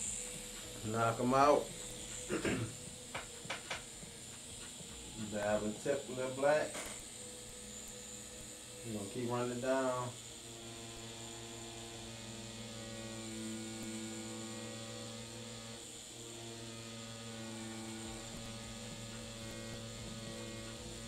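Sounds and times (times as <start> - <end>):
tattoo machine buzzing: 0.0 - 21.0.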